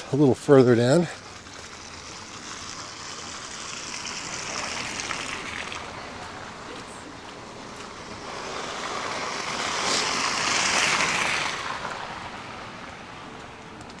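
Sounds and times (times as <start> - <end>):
vehicle tyre hiss on snow: 0.7 - 13.5.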